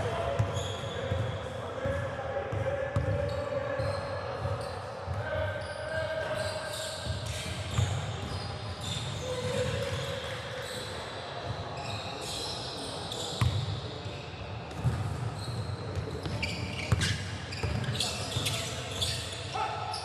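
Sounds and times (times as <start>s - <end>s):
sneakers squeaking on court: 0.4s - 1.4s, 3.0s - 4.8s, 5.5s - 20.0s.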